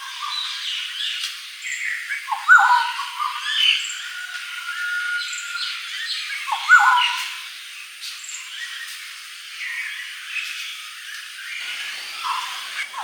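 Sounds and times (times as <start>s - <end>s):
long steady whistled bird note: 0.0s - 13.0s
birds chirping and calling: 0.1s - 9.0s, 9.6s - 13.0s.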